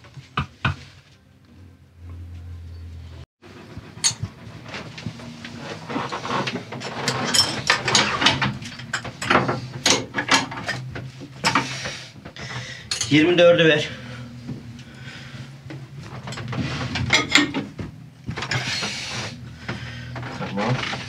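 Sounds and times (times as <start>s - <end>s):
low steady hum: 1.0s - 21.0s.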